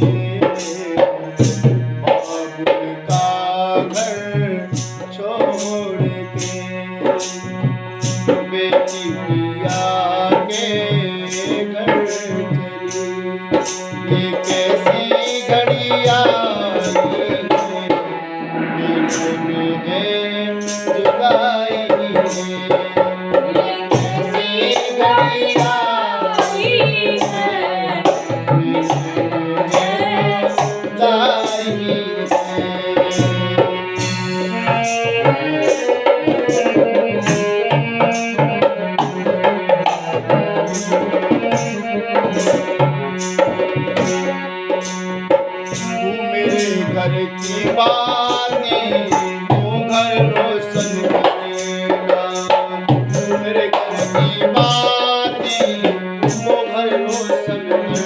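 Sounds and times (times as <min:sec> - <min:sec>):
repeating drum rhythm: 0:00.0 - 0:58.0.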